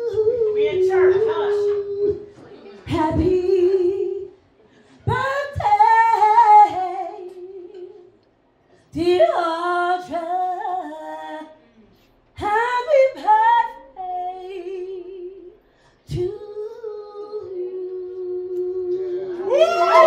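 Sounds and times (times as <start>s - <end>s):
woman singing wordlessly: 0.0s - 2.3s, 2.9s - 4.4s, 5.1s - 8.1s, 8.9s - 11.6s, 12.4s - 19.6s.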